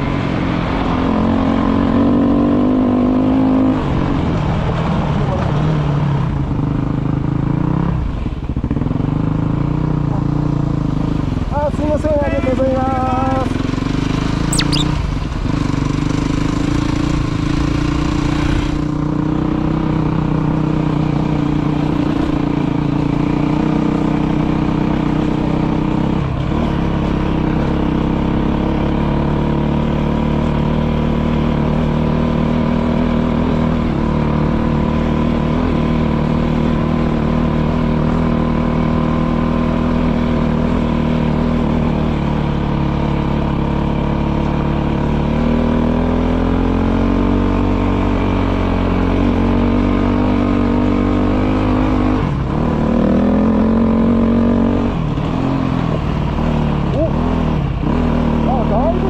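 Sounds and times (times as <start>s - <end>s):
motorcycle engine running: 6.5s - 59.0s.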